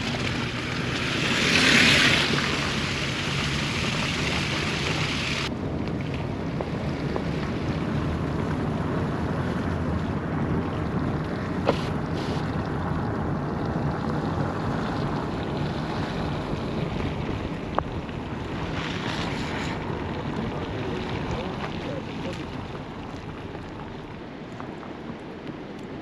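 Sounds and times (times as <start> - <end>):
car road and wind noise: 0.0 - 26.0
wind buffeting microphone: 0.0 - 26.0.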